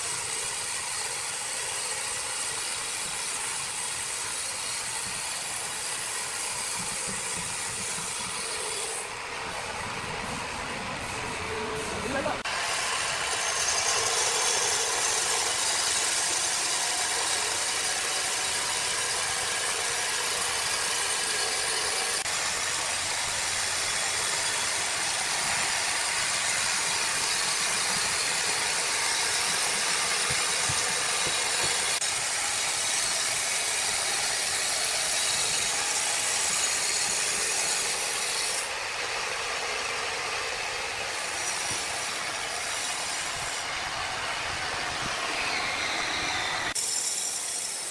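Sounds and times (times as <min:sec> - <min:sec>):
saw cutting timber: 0:00.0 - 0:47.9
sawmill machinery running: 0:00.0 - 0:47.9.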